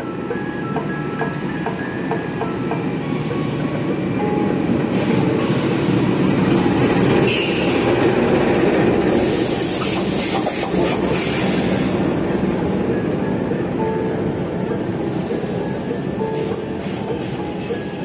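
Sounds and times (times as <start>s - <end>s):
passenger train rumbling past: 0.0s - 18.0s.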